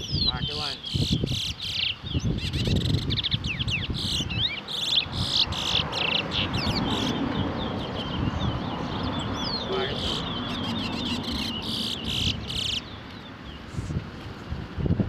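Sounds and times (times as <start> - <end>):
finch chirping and trilling: 0.0 - 14.0.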